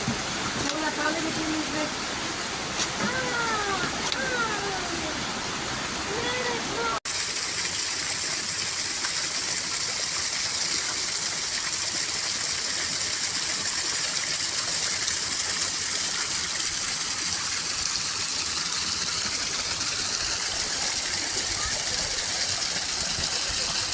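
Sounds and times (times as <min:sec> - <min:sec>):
water rushing over rocks: 0:00.0 - 0:23.9.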